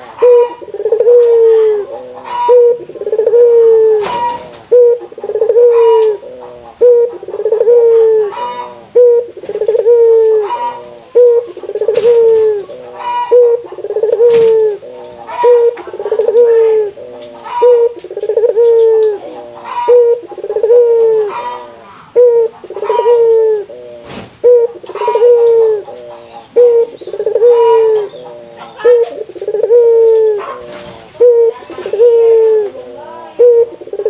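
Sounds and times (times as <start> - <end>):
dove cooing: 0.0 - 34.0.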